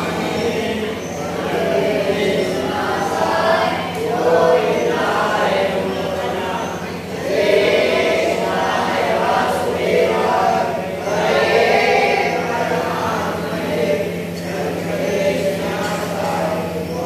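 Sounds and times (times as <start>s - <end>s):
group singing devotional song: 0.0s - 17.0s.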